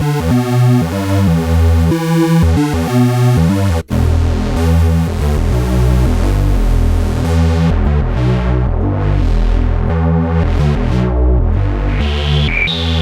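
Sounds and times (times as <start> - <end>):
deep synth bass line: 0.0 - 13.0
synthesizer chords: 0.0 - 13.0.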